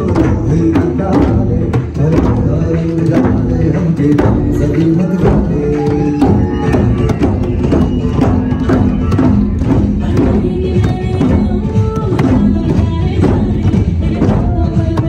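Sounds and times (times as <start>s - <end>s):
djembe drums playing: 0.0s - 15.0s.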